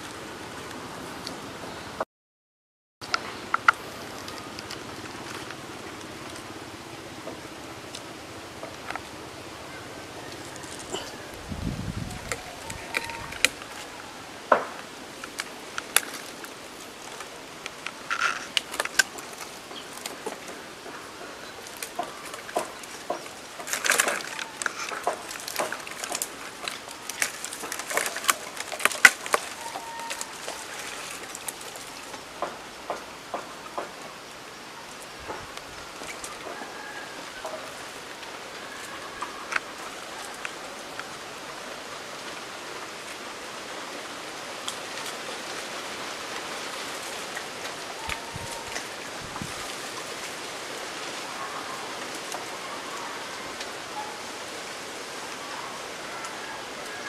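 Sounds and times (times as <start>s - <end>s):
branches and leaves rustling: 0.0s - 2.0s, 3.0s - 57.0s
twigs and bark cracking: 3.0s - 57.0s.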